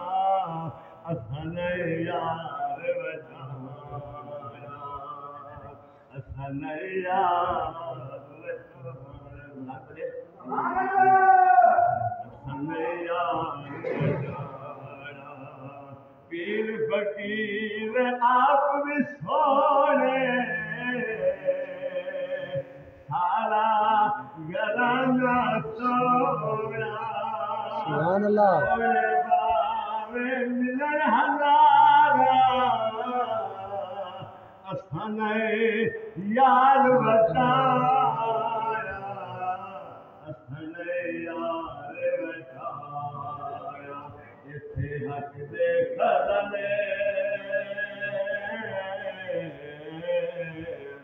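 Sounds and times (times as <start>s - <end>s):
man singing unaccompanied: 0.0s - 51.0s.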